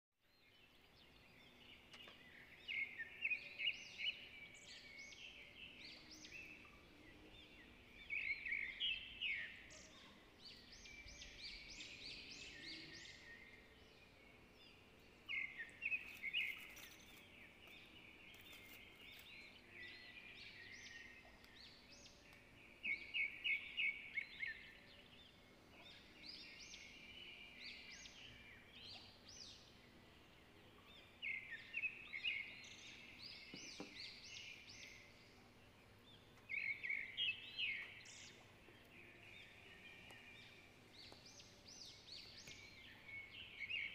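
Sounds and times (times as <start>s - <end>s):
faint bird chirping: 0.2s - 43.9s.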